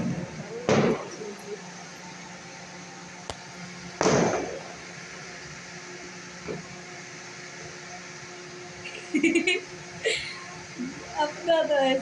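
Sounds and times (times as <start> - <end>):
low room hum: 0.0 - 12.0
noisy burst: 0.0 - 12.0.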